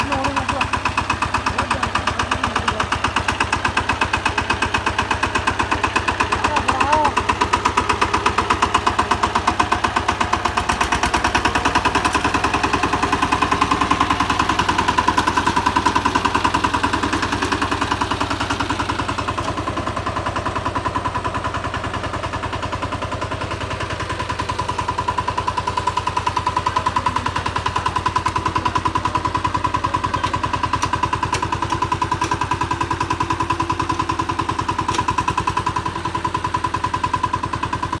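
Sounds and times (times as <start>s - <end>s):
diesel engine chugging: 0.0s - 38.0s.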